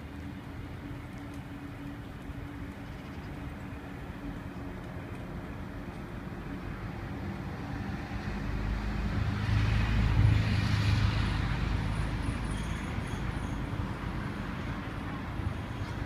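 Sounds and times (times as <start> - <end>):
steady traffic noise: 0.0 - 16.0.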